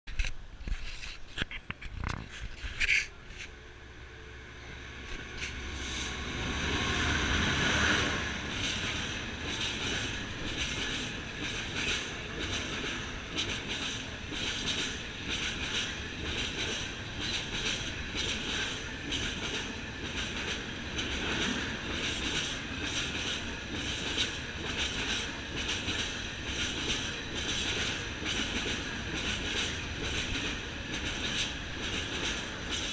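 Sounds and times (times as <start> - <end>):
diesel locomotive passing: 3.1 - 32.9.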